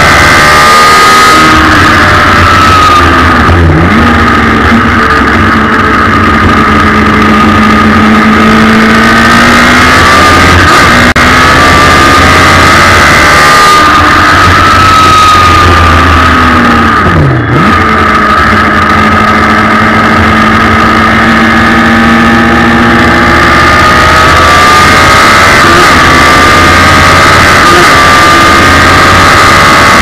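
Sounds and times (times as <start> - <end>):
race car engine running loud: 0.0 - 30.0.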